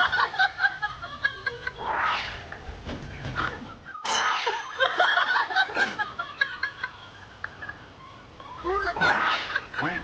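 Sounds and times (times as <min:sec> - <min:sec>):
people laughing: 0:00.0 - 0:01.9, 0:03.4 - 0:10.0.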